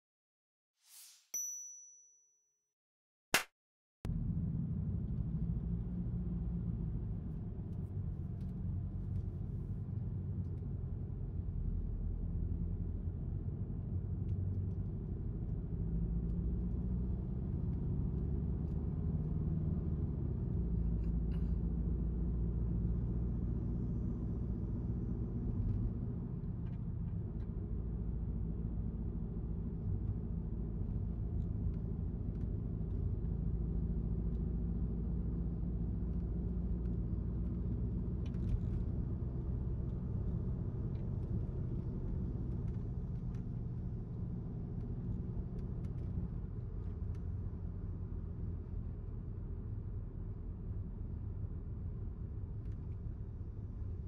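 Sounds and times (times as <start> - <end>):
car engine and road noise: 4.1 - 54.0.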